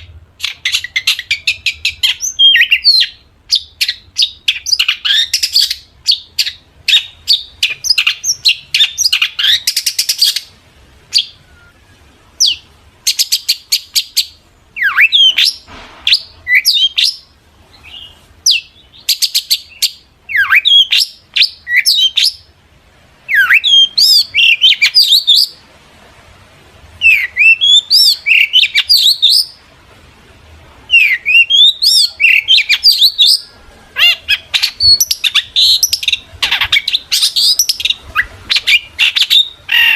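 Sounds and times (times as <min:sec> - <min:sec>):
bird chattering and whistling: 0:00.0 - 0:10.5, 0:12.4 - 0:22.5, 0:23.3 - 0:25.6, 0:27.0 - 0:29.6, 0:30.9 - 0:39.9.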